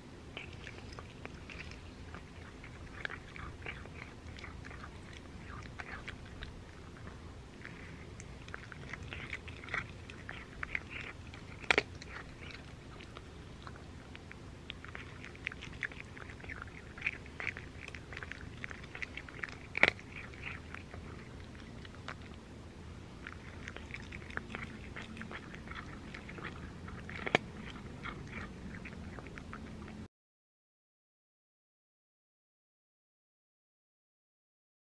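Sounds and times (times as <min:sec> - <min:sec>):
cat crunching dry kibble: 0:00.1 - 0:30.0.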